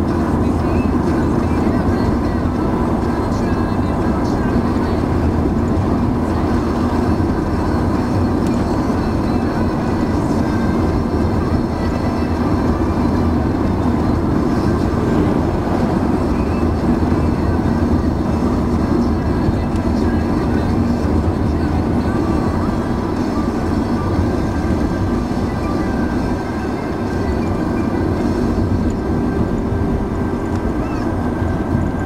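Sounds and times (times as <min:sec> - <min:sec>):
car engine: 0:00.0 - 0:32.0
tyres rumbling on asphalt: 0:00.0 - 0:32.0.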